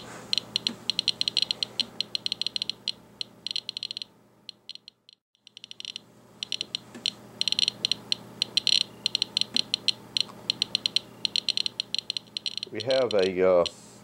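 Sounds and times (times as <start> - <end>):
geiger counter clicking rapidly: 0.4 - 13.7.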